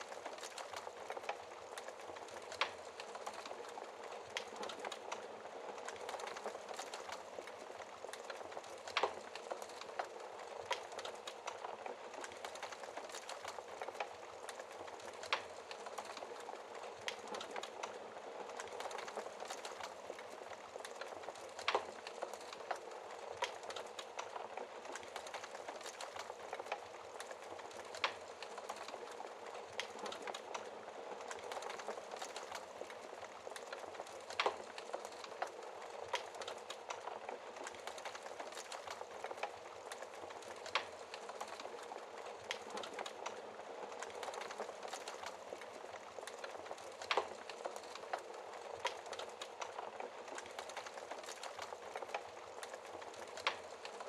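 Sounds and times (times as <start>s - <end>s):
fire crackling: 0.0s - 54.0s
wood fire popping: 0.0s - 54.0s.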